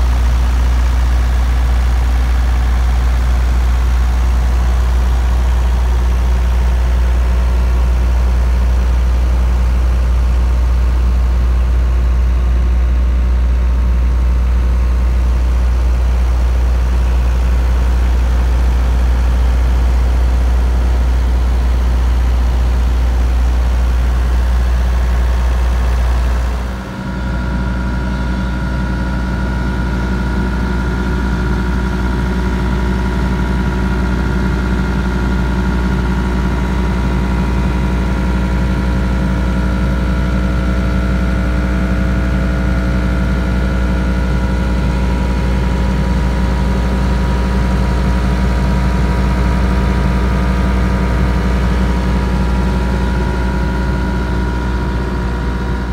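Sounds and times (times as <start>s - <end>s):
diesel generator humming: 0.0s - 55.9s.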